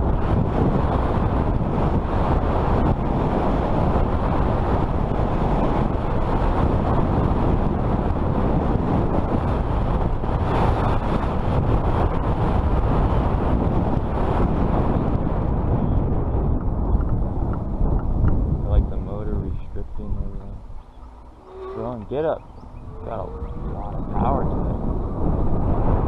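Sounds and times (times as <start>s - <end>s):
bike tires rolling: 0.0s - 26.0s
wind on microphone: 0.0s - 26.0s.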